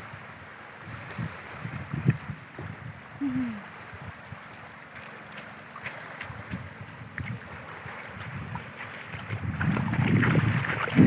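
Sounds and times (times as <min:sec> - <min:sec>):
wind buffeting microphone: 0:00.0 - 0:04.7, 0:05.8 - 0:11.0
faint splashes: 0:00.0 - 0:11.0
small waves lapping on shore: 0:00.0 - 0:11.0.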